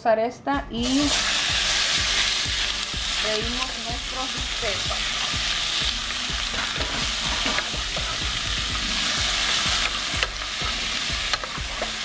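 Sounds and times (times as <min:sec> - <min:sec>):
meat sizzling in oil: 0:00.8 - 0:12.0.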